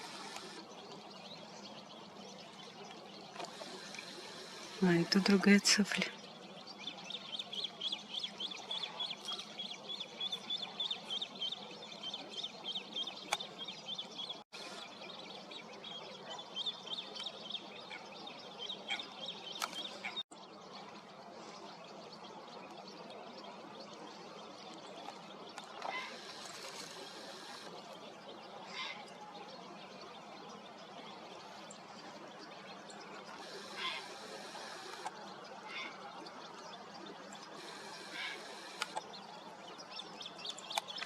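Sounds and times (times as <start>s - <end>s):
faint steady background noise: 0.0s - 41.0s.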